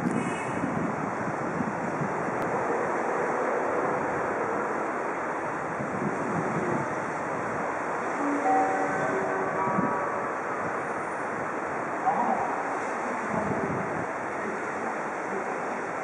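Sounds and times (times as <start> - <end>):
wind buffeting microphone: 0.0 - 8.2, 8.8 - 16.0.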